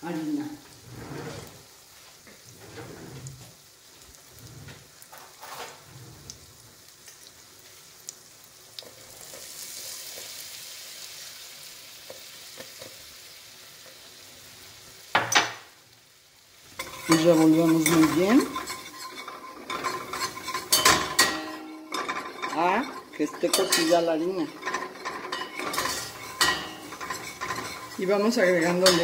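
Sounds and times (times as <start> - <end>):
butter sizzling in a pot: 0.0 - 29.0.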